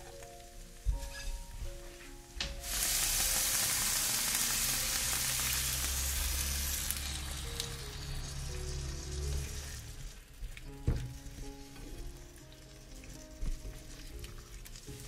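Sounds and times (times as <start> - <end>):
eggs sizzling in hot oil: 2.6 - 15.0.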